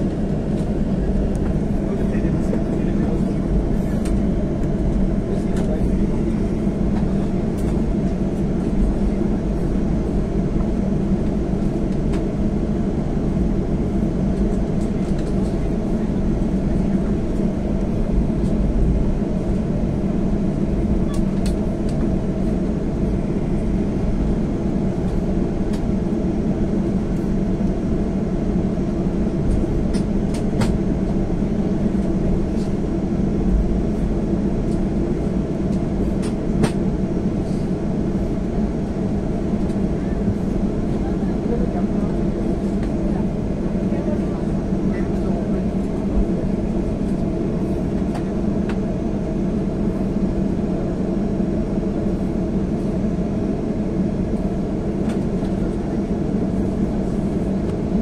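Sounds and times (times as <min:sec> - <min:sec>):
jet engines low rumble: 0:00.0 - 0:58.0.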